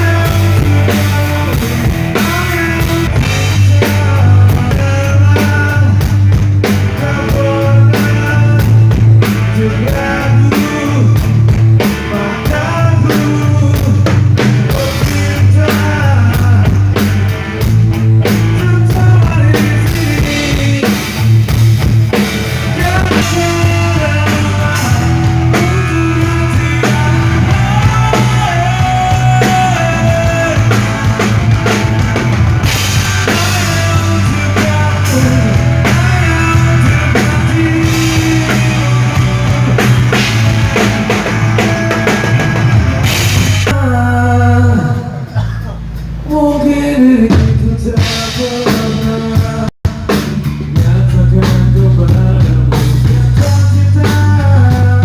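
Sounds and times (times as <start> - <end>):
drum kit hits: 0.0 - 43.8, 47.3 - 55.0
heavy bass line: 0.0 - 55.0
rock band through pa: 0.0 - 55.0.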